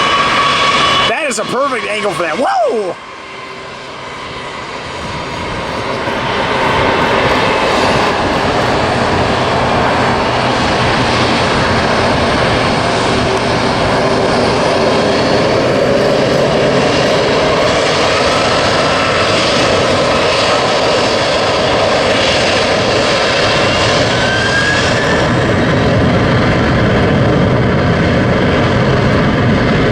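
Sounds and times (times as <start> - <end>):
thin rising whine: 0.0 - 29.2
jet engines running: 0.0 - 29.9.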